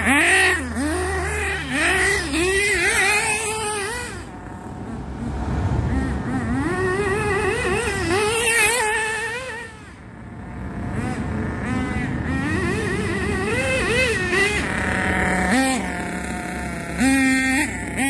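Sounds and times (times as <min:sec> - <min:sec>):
model car engine revving: 0:00.0 - 0:18.0.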